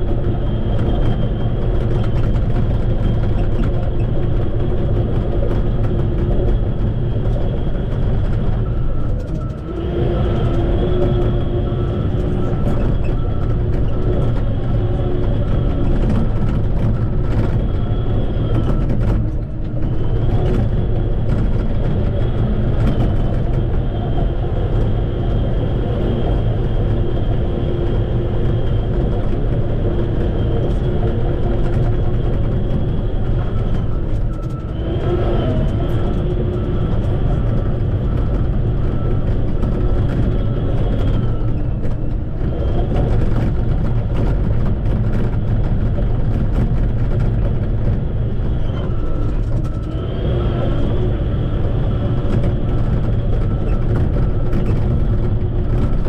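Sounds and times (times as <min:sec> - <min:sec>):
bulldozer diesel engine rumble: 0:00.0 - 0:56.0
high-pitched whine: 0:00.0 - 0:56.0.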